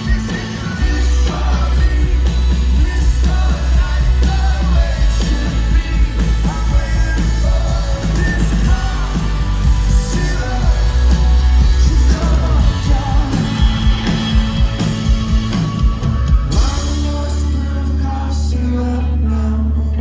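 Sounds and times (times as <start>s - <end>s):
lead singer singing: 0.0s - 15.1s, 16.0s - 20.0s
rock band playing live: 0.0s - 19.2s.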